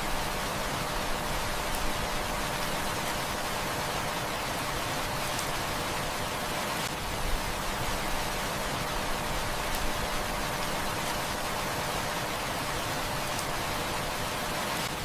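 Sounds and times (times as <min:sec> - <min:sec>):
faint wood fire crackles: 0:00.0 - 0:15.0
heavy rain falling: 0:00.0 - 0:15.0.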